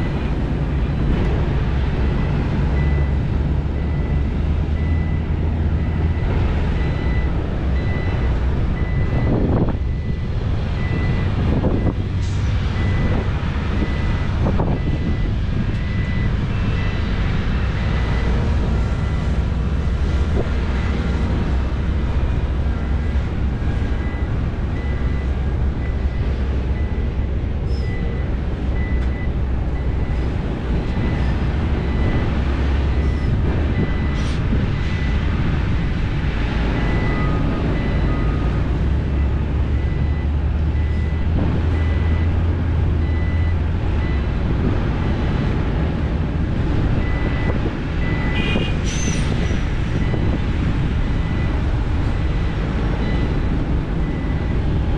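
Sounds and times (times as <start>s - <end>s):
heavy diesel engines running: 0.0s - 54.9s
reversing alarm beeping: 1.9s - 12.0s, 12.7s - 19.4s, 22.8s - 30.2s, 30.9s - 35.4s, 36.6s - 44.4s, 47.0s - 54.8s.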